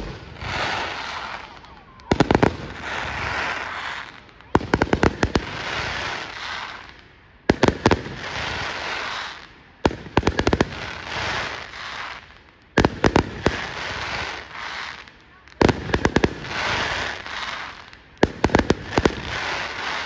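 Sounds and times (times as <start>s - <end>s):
firework bangs: 0.0s - 20.0s
firework crackling: 0.0s - 20.0s.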